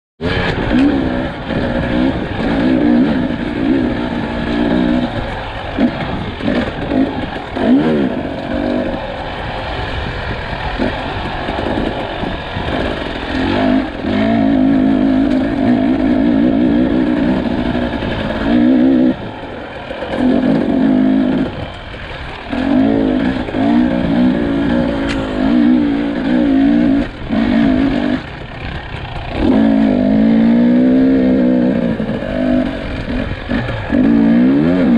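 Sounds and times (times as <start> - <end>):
two-stroke motorcycle engine revving: 0.2 - 34.9.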